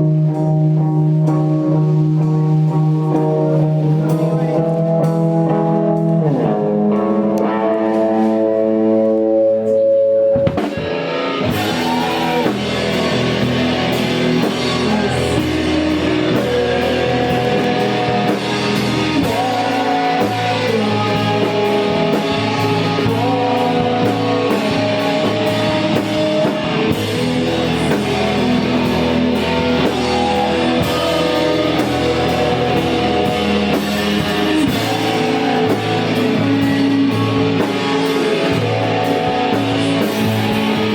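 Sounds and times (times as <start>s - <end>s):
drums: 0.0s - 40.9s
electric guitar chords: 0.0s - 40.9s
live rock band playing: 0.0s - 40.9s.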